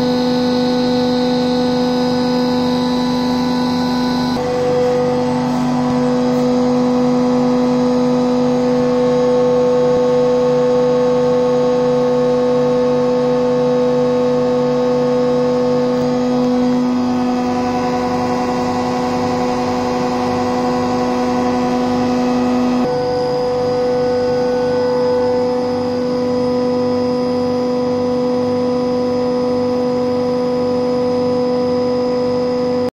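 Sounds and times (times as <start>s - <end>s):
pump motors humming: 0.0s - 32.8s.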